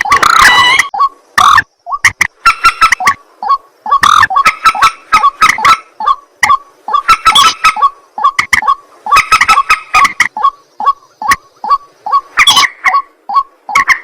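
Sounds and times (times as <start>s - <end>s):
waterhen harsh croaking calls: 0.0s - 14.0s.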